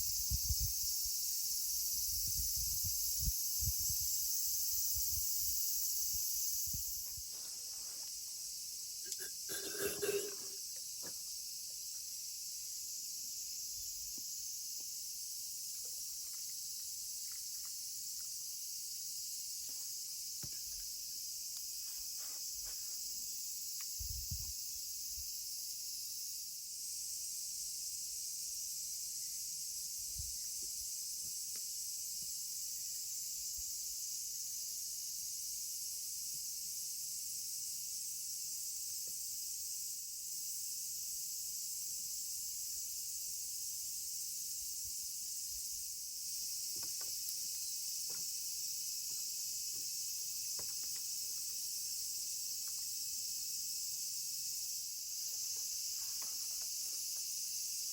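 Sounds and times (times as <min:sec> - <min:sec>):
insects chirring: 0:00.0 - 0:57.9.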